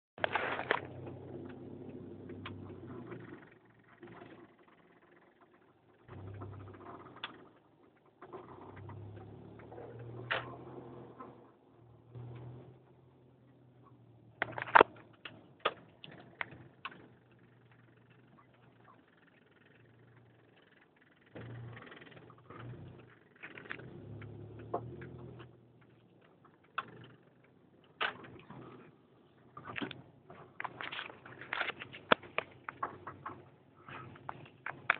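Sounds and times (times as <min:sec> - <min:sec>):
rumbling: 0:00.2 - 0:34.9.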